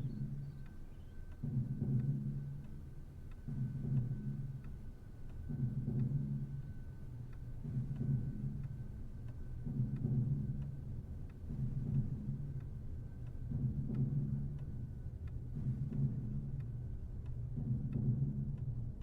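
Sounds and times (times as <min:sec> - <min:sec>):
steady ticking: 0:00.0 - 0:19.0.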